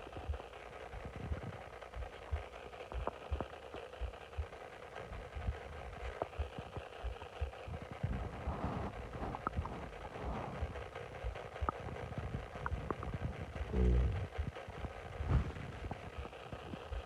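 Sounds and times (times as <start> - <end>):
stomach gurgling rumbles: 0.0 - 17.0.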